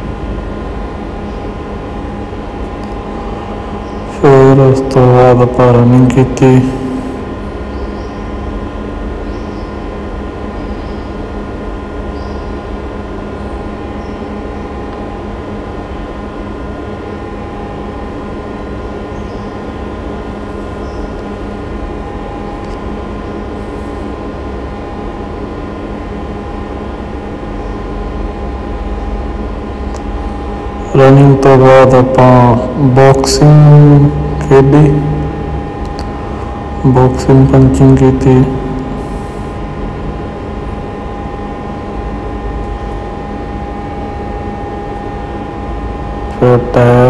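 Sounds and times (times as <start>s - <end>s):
held hum tones: 0.0s - 47.0s.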